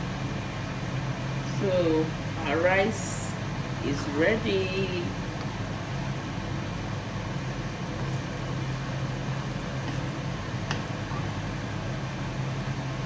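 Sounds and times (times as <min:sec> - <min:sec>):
kitchen fan humming: 0:00.0 - 0:13.0.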